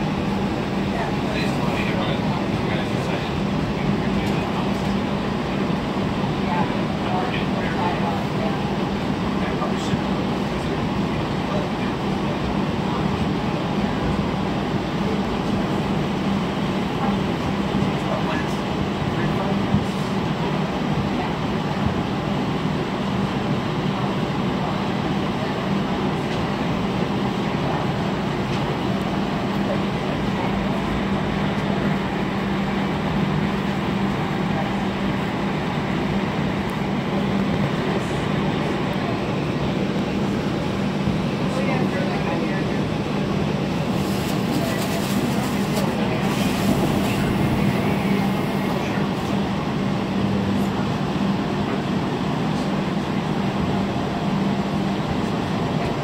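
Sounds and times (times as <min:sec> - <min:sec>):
streetcar interior rumble: 0:00.0 - 0:56.0.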